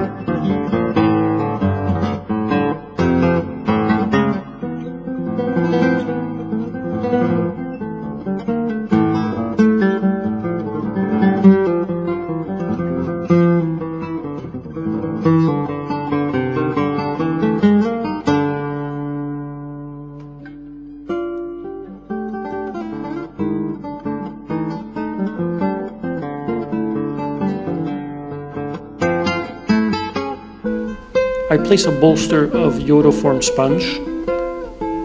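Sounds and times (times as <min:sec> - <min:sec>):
acoustic guitar strummed and plucked: 0:00.0 - 0:35.0.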